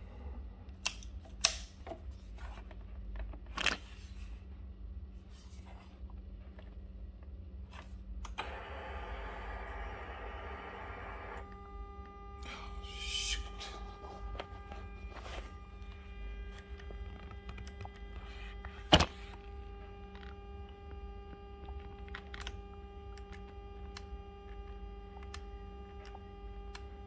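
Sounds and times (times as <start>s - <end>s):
electrical hum with whine: 0.0s - 27.0s.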